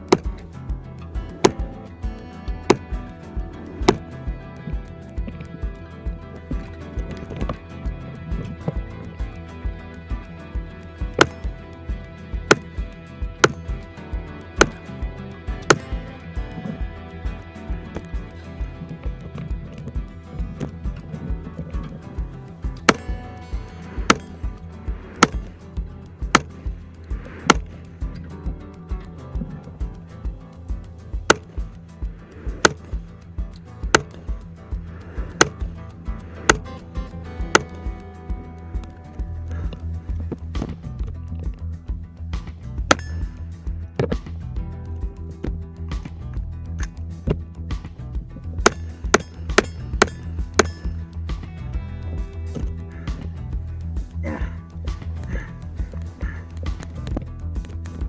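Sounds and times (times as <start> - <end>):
background music with beat: 0.0 - 58.0.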